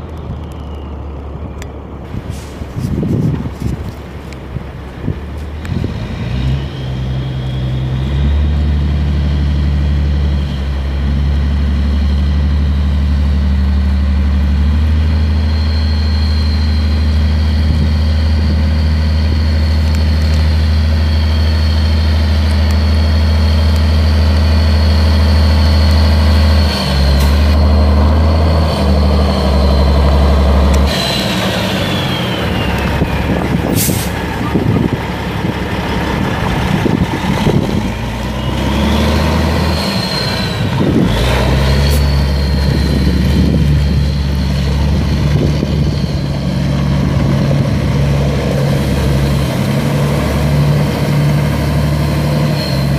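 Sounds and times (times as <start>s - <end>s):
diesel truck engine droning: 0.0s - 52.9s
turbo whine: 6.4s - 52.9s.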